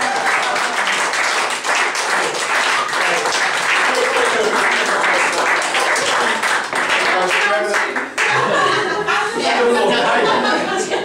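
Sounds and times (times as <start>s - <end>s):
small group applauding: 0.0s - 9.8s.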